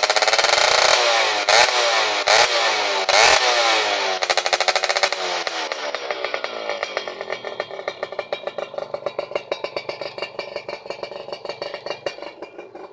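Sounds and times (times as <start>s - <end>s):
two-stroke engine idling unevenly: 0.0s - 12.9s.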